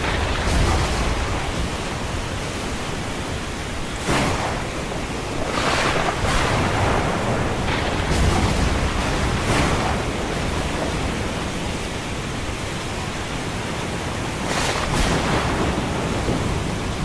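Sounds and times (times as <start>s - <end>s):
ocean waves washing: 0.0s - 17.0s
waves breaking: 0.0s - 17.0s.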